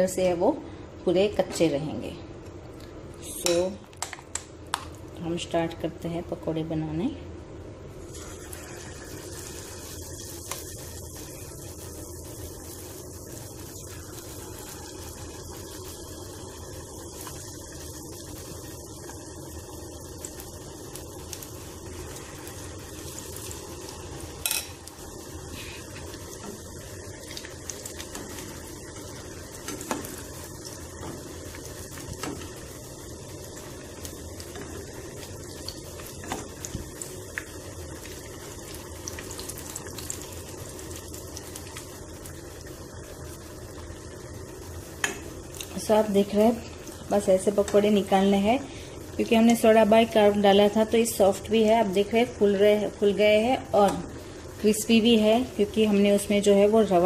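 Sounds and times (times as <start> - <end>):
batter sizzling in oil: 7.9 - 57.0.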